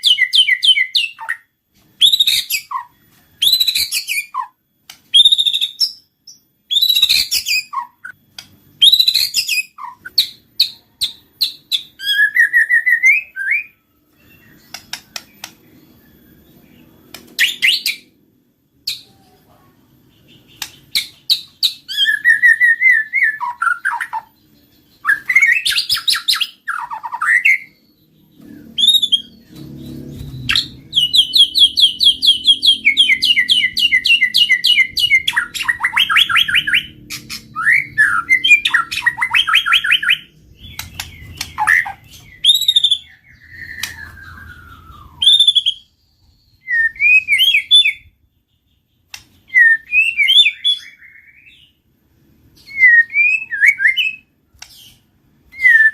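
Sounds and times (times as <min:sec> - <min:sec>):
bird singing whistles and trills: 0:00.0 - 0:19.4, 0:20.1 - 0:51.8, 0:52.6 - 0:55.9.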